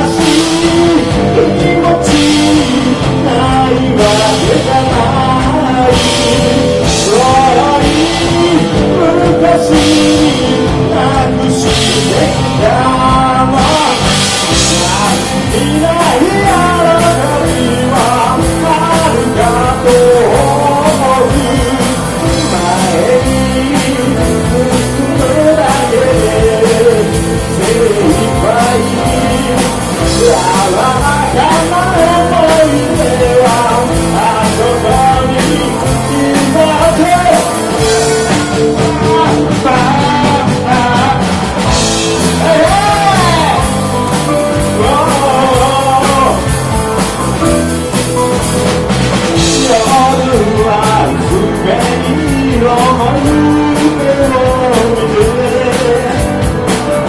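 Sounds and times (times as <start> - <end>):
lead vocal singing: 0.0 - 48.0, 49.2 - 57.0
rock band playing live: 0.0 - 57.0
steady drum beat: 0.0 - 57.0.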